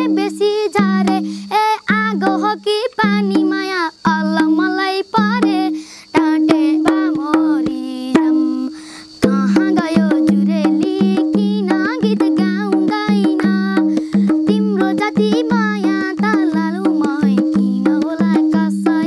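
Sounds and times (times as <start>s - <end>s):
boy singing: 0.0s - 19.0s
hand drum strokes: 0.0s - 19.0s.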